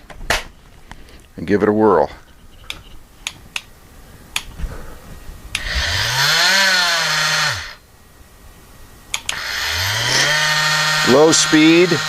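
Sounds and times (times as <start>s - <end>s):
multi-tool buzzing whine: 2.3s - 12.0s.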